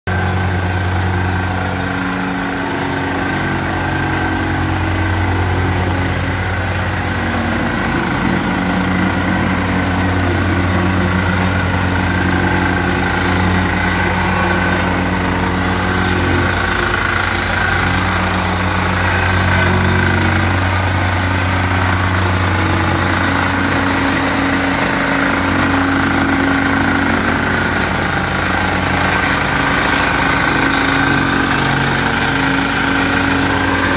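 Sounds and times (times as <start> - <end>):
plate compactor running: 0.1 - 33.9.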